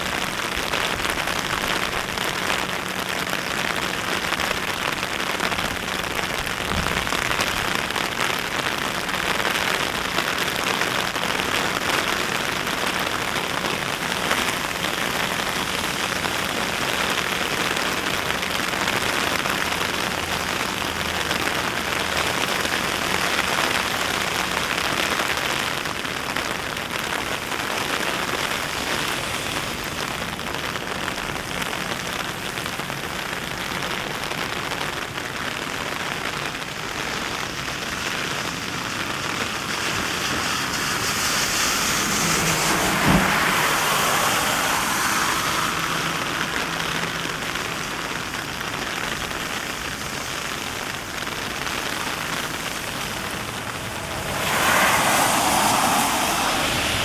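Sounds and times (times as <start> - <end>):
heavy rain pattering on surfaces: 0.0 - 57.0.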